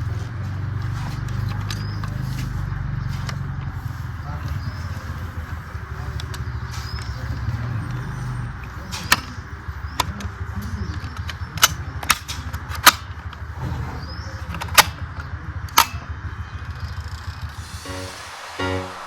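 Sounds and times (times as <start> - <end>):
engine idle sound: 0.0 - 19.0.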